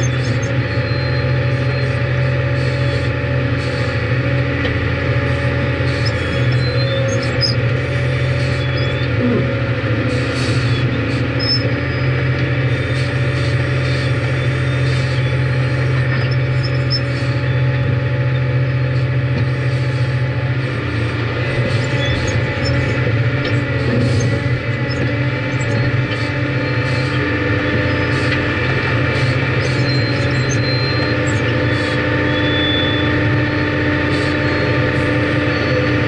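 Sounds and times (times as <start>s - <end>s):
diesel engine drone: 0.0s - 36.0s.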